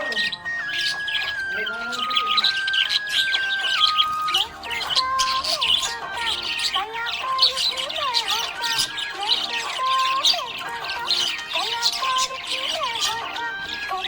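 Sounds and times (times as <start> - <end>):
budgerigar chirping and warbling: 0.0 - 14.0.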